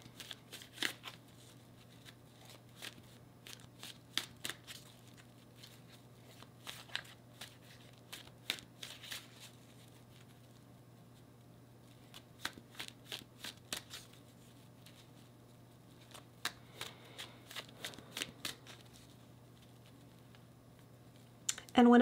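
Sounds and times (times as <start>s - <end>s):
cards being shuffled: 0.0s - 10.6s, 11.8s - 15.3s, 15.9s - 21.3s
faint steady hum: 0.0s - 22.0s.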